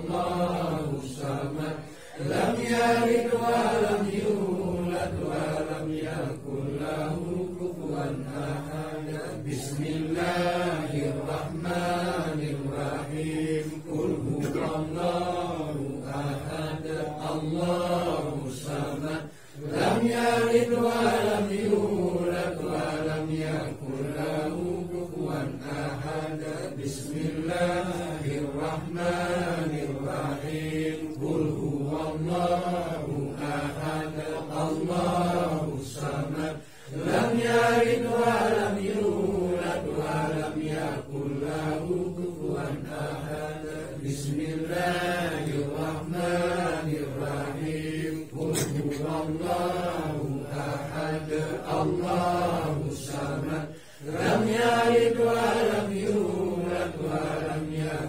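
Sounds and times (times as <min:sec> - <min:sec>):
men chanting prayers: 0:00.0 - 0:58.0.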